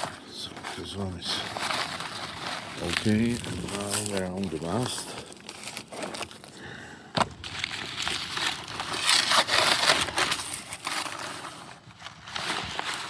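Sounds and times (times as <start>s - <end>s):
crackling tear of peel ply: 0.0s - 6.6s, 7.4s - 13.0s.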